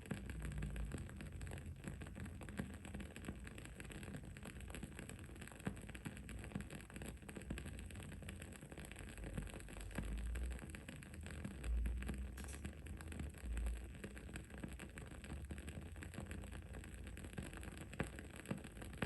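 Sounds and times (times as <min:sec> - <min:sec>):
candle crackling: 0:00.0 - 0:19.0.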